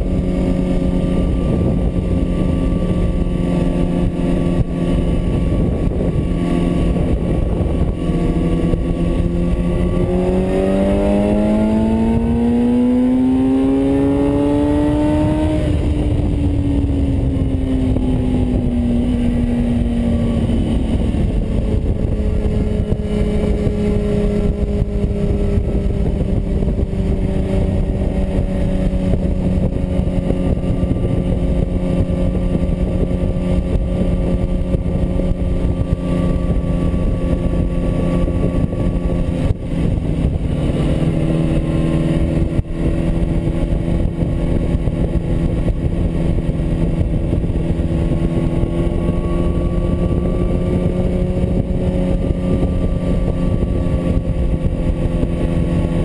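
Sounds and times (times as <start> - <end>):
motorcycle engine cruising and revving: 0.0 - 56.0
wind noise on microphone: 0.0 - 56.0.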